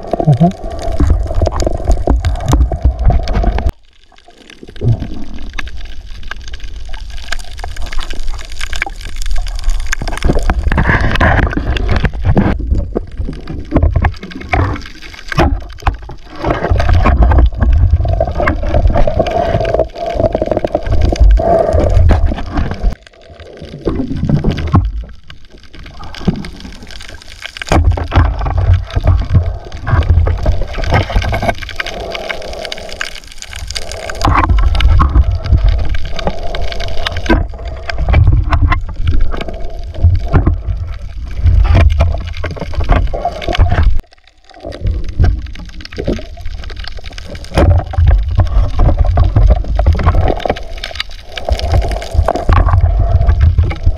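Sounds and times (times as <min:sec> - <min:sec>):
deep uneven rumble: 0:00.0 - 0:53.9
muffled water sloshing underwater: 0:00.0 - 0:53.9.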